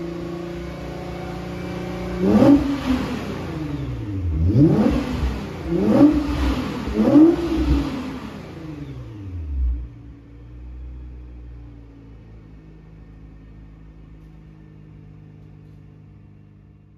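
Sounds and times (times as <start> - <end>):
car engine revving and idling: 0.0 - 16.9.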